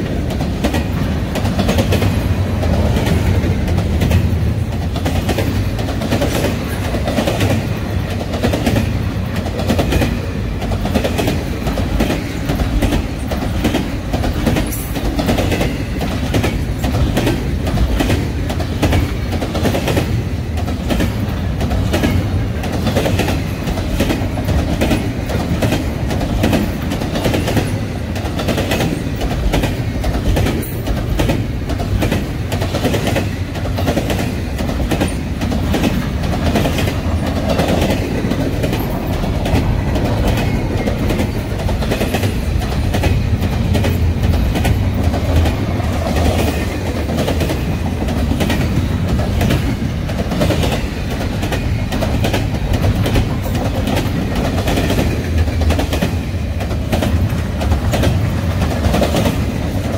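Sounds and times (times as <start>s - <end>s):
freight train wheels rumbling on rail: 0.0s - 59.9s
wheels clacking over rail joints: 0.0s - 59.9s.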